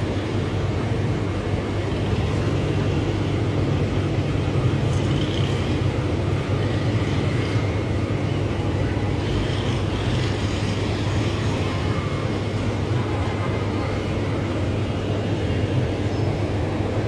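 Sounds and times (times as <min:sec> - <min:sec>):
aquarium pump humming: 0:00.0 - 0:17.0.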